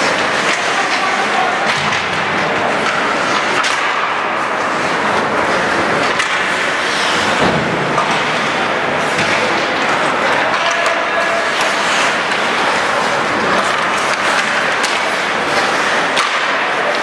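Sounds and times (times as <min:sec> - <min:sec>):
skate blades scraping ice: 0:00.0 - 0:17.0.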